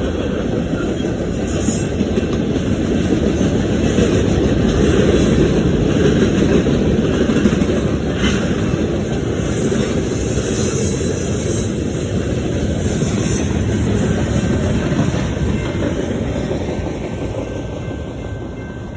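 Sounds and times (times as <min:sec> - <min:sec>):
freight train wheels rumbling on rail: 0:00.0 - 0:18.9.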